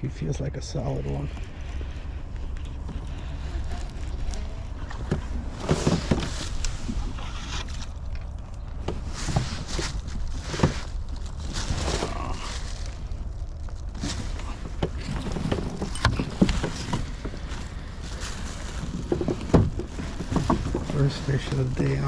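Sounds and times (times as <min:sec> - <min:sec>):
steady low rumble: 0:00.0 - 0:22.0
handling noises: 0:00.2 - 0:22.0.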